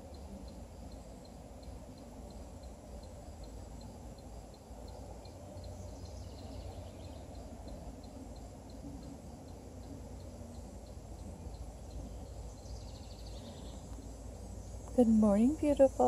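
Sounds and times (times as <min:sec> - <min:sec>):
faint chirp: 0:00.0 - 0:16.0
faint high-pitched ticking: 0:00.0 - 0:16.0.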